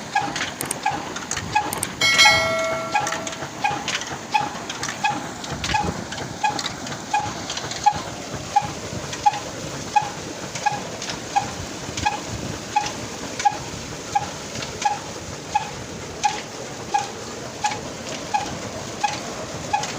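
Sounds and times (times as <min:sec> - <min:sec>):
diesel engine beating slowly: 0:03.5 - 0:19.9.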